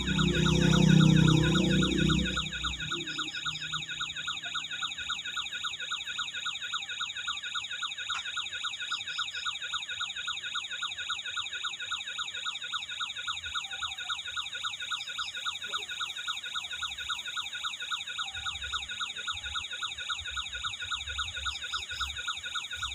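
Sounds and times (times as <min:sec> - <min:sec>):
electronic toy siren warbling: 0:00.0 - 0:22.9.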